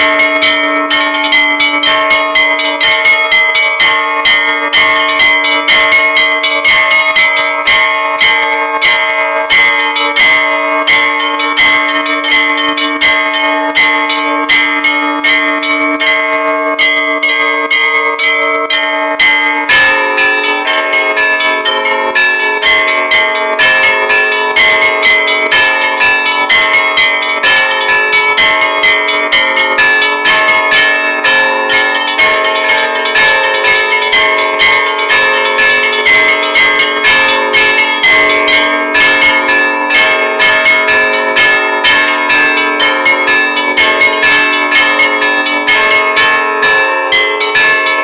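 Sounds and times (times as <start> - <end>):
church bells pealing: 0.0 - 48.0.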